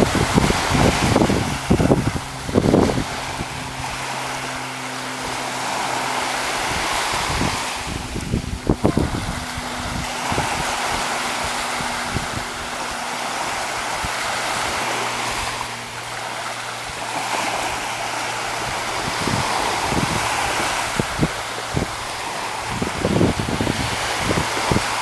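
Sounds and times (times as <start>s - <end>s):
sea surf washing onto beach: 0.0s - 25.0s
wind buffeting microphone: 0.0s - 25.0s.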